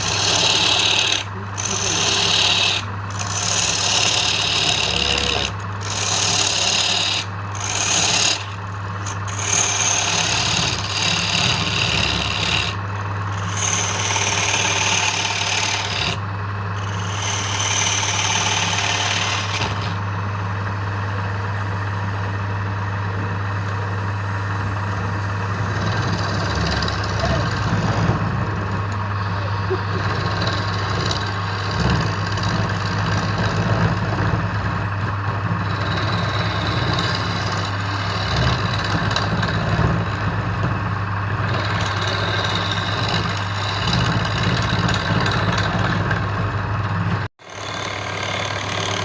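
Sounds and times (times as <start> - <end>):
tool scraping spinning wood: 0.0 - 49.0
wood lathe motor hum: 0.0 - 49.0.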